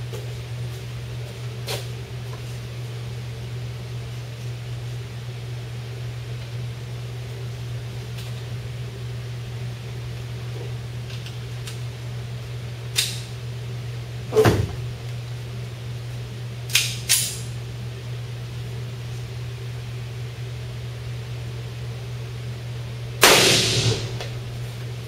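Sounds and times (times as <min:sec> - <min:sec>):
ventilation fan hum: 0:00.0 - 0:25.0.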